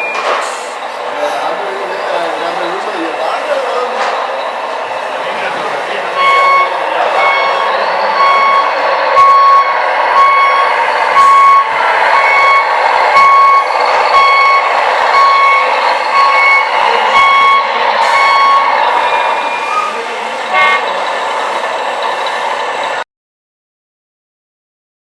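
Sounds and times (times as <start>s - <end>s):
reversing alarm beeping: 0.0s - 23.0s.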